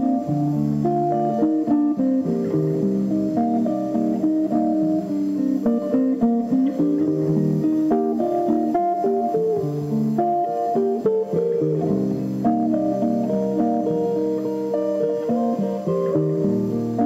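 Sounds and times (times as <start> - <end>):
plucked guitar melody: 0.0 - 17.0.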